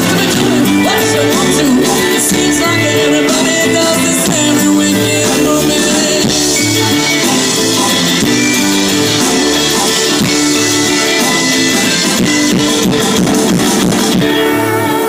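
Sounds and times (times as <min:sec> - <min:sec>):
bass line: 0:00.0 - 0:15.0
electric guitars: 0:00.0 - 0:15.0.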